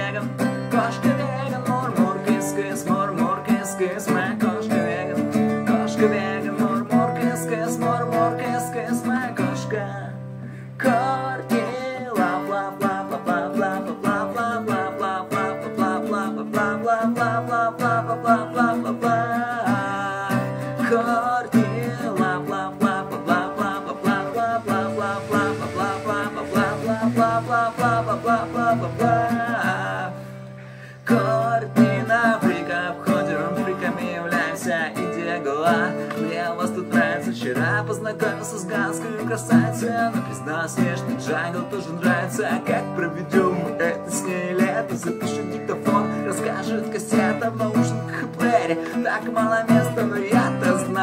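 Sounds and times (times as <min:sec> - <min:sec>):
acoustic guitar strumming: 0:00.0 - 0:51.0
man singing: 0:00.0 - 0:51.0.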